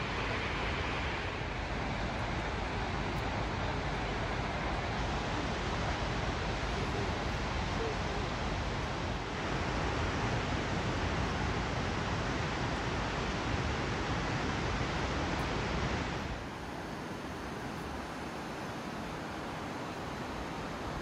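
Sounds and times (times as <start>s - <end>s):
fast-flowing water rushing: 0.0s - 21.0s.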